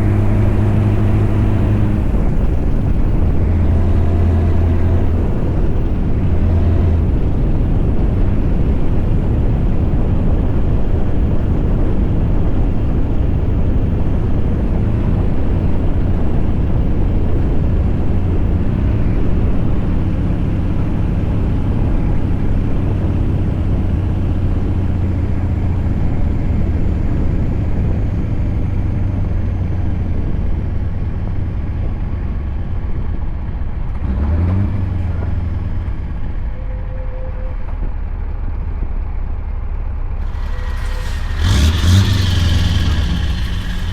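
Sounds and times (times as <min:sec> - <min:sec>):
diesel truck engine droning: 0:00.0 - 0:43.9.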